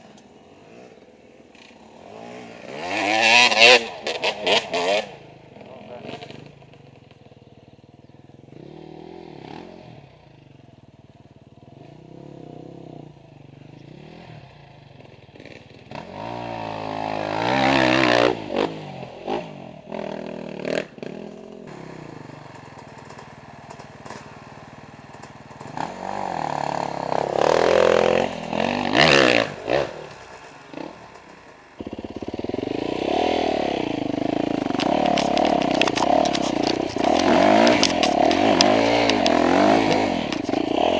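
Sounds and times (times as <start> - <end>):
dirt bike engine revving: 0.0 - 7.0, 8.0 - 10.7, 11.5 - 40.9.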